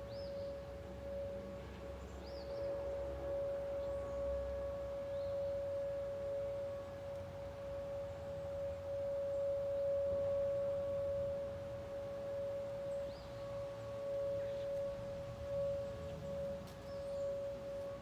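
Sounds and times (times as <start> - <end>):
distant warning siren: 0.0 - 18.0.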